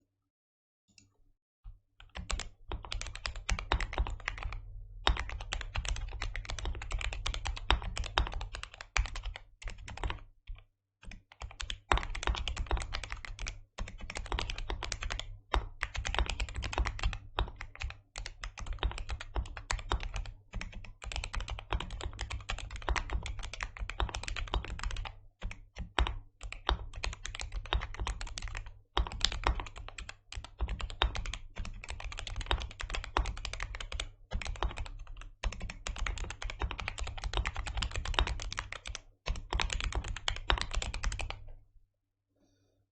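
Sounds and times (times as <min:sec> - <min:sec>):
mechanical keyboard typing: 0:02.0 - 0:41.5.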